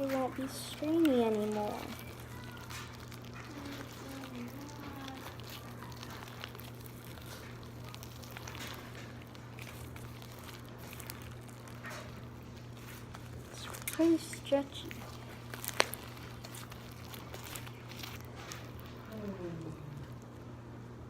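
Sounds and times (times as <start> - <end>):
slime squelching and clicking: 0.0 - 20.4
steady low hum: 0.0 - 21.0.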